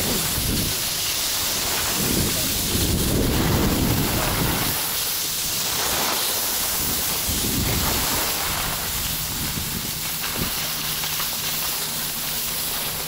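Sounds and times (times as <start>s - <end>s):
wind rumble on microphone: 0.0s - 10.7s
skis hissing over snow: 0.0s - 13.0s.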